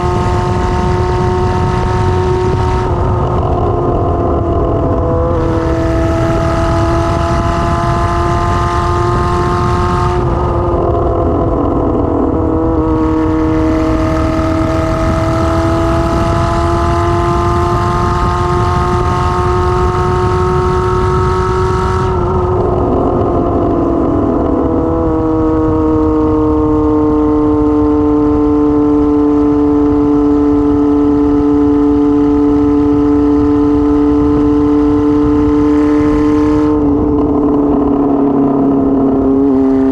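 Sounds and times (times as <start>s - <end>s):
unmuffled motorcycle engine accelerating: 0.0s - 39.9s.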